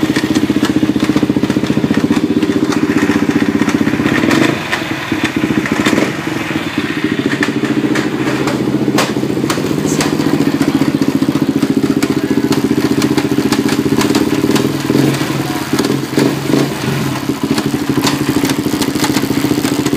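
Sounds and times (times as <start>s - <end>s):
quad engine running: 0.0s - 19.9s.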